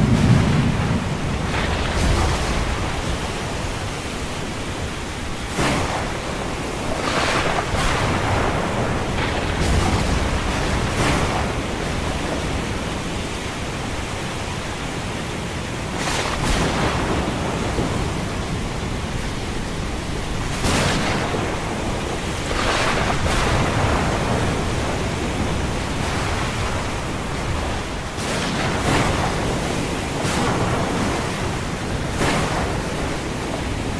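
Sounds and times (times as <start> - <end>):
ocean waves breaking: 0.0 - 33.9
rain: 0.0 - 33.9
rushing hiss of surf: 0.0 - 33.9.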